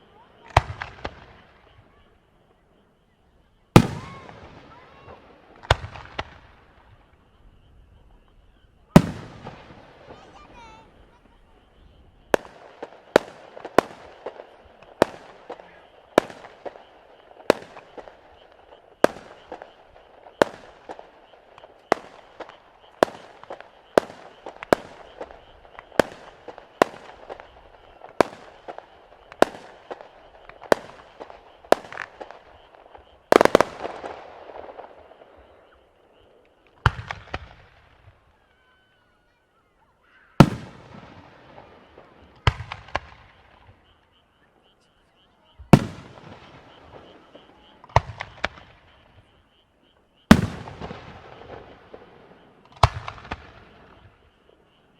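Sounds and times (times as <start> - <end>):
fireworks bangs: 0.0 - 39.4, 40.0 - 44.8, 45.4 - 49.6, 50.2 - 54.9
fireworks crackling: 0.0 - 54.9.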